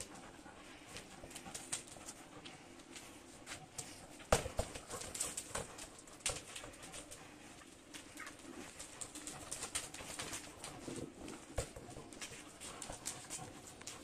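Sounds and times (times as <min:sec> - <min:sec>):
dog paws scuffing on concrete: 0:00.0 - 0:14.0.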